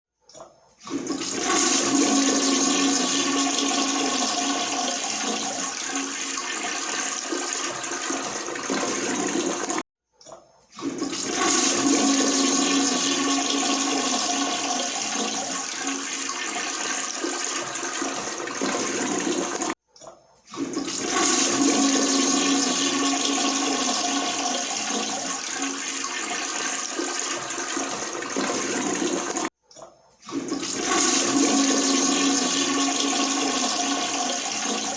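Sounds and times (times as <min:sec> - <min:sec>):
toilet flushing: 0:00.8 - 0:09.8, 0:10.7 - 0:19.8, 0:20.5 - 0:29.6, 0:30.2 - 0:34.9.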